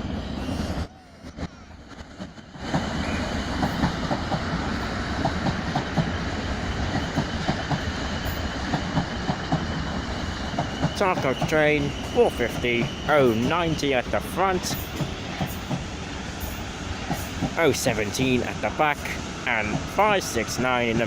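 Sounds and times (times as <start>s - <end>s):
train wheels clicking over rail joints: 1.4s - 21.0s.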